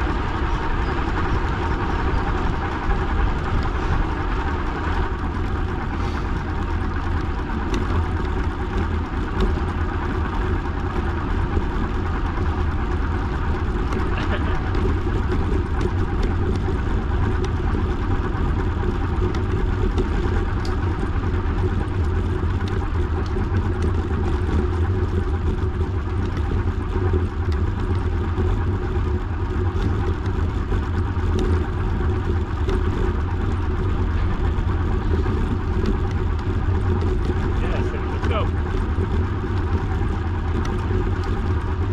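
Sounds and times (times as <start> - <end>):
bicycle tyres rolling: 0.0 - 41.9.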